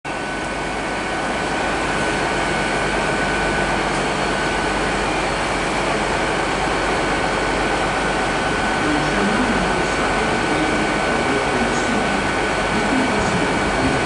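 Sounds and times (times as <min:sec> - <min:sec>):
diesel engine drone: 0:00.1 - 0:14.0
thin high whine: 0:00.1 - 0:14.0.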